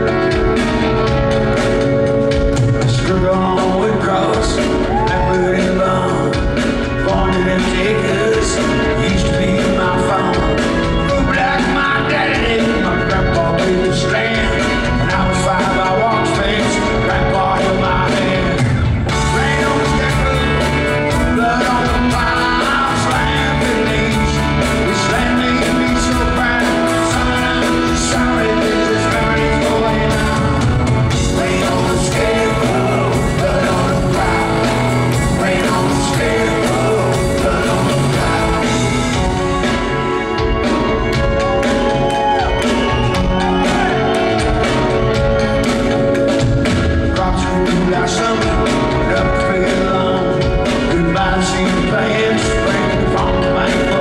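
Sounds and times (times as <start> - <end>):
drum kit beat: 0.0 - 54.0
electric guitar: 0.0 - 54.0
live rock band playing: 0.0 - 54.0
man singing: 0.0 - 54.0.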